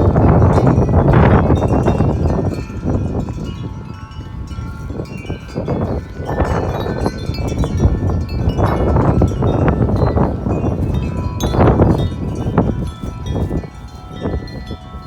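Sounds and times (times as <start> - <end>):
wind buffeting microphone: 0.0 - 15.0
wind chimes ringing: 0.0 - 15.0.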